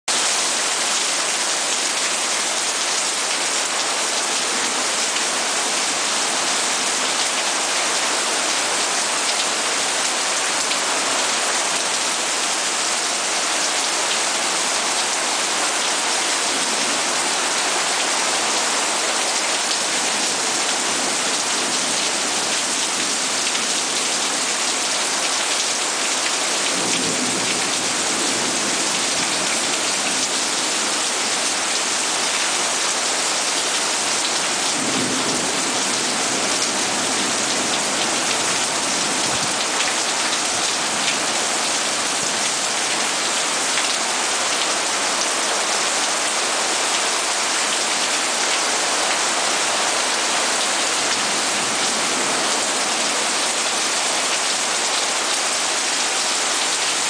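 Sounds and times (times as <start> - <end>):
heavy rain pouring: 0.1 - 57.0.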